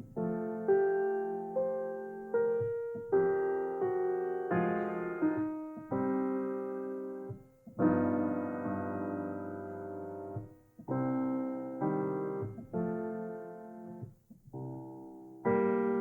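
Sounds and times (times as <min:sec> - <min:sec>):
slow blues piano chords: 0:00.0 - 0:16.0.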